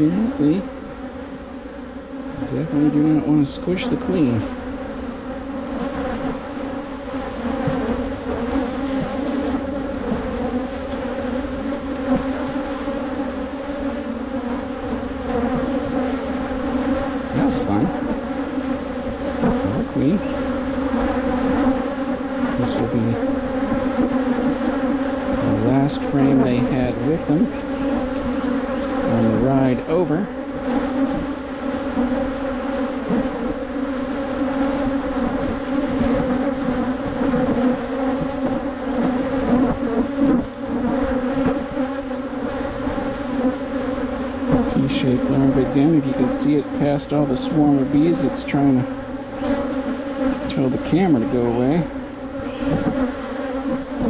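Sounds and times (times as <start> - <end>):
bee flying past whine: 0.0 - 54.0
bees buzzing: 0.0 - 54.0.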